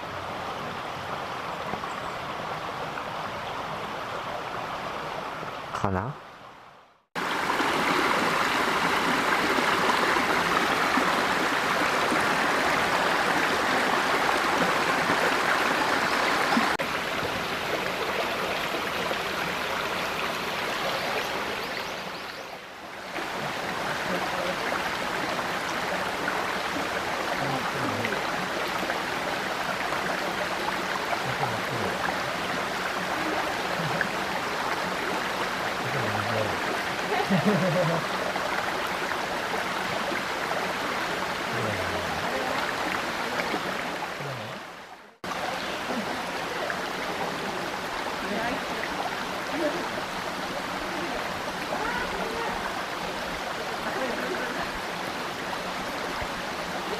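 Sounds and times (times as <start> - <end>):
stream running over rocks: 0.0 - 56.9.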